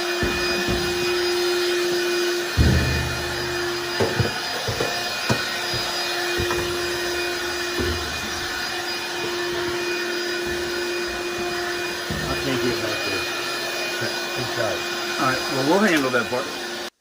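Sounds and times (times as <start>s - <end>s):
vacuum nozzle knocking: 0.0s - 14.4s
vacuum cleaner running: 0.0s - 17.0s.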